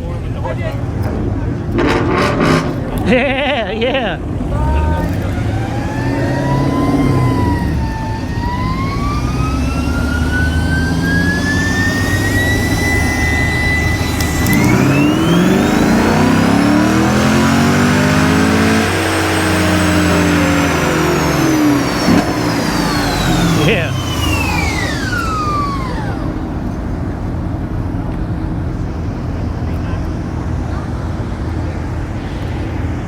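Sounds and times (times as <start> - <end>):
car engine revving: 0.0 - 33.0
high whine of dyno rollers: 0.0 - 33.0.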